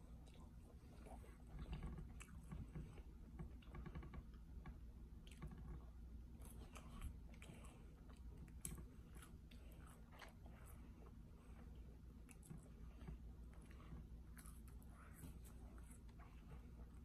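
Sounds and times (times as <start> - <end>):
faint chewing of fries: 0.0 - 17.0.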